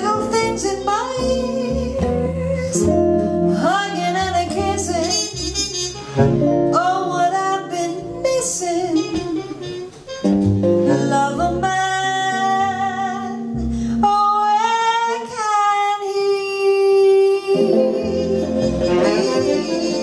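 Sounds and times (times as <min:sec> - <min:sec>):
double bass: 0:00.0 - 0:15.8, 0:16.8 - 0:20.0
archtop guitar: 0:00.0 - 0:20.0
woman singing jazz: 0:00.0 - 0:20.0.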